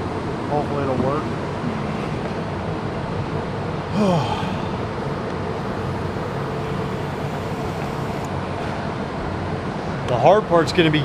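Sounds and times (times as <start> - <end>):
low hum: 0.0 - 9.6.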